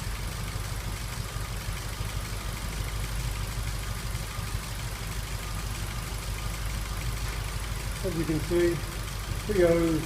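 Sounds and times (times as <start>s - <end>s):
car engine idling unevenly: 0.0s - 10.0s.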